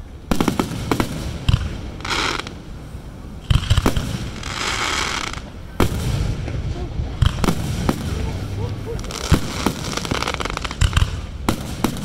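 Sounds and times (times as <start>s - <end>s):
fireworks bursting with bangs: 0.0s - 12.0s
fireworks crackling: 0.0s - 12.0s.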